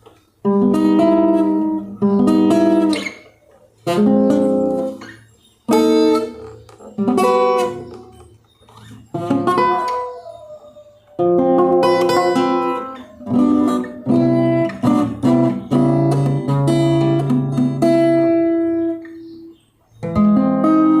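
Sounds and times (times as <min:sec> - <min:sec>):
acoustic guitar strumming: 0:00.0 - 0:10.2, 0:11.2 - 0:21.0.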